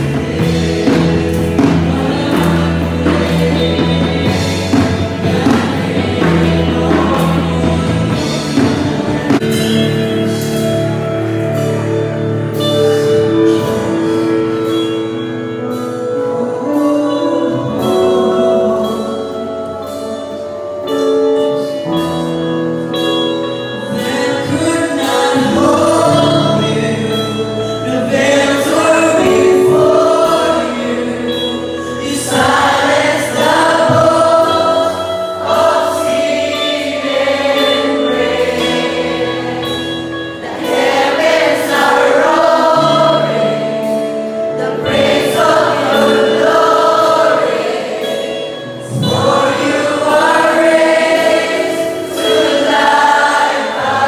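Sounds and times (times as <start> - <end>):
crowd singing worship song: 0.0 - 54.0
held instrumental chords: 0.0 - 54.0.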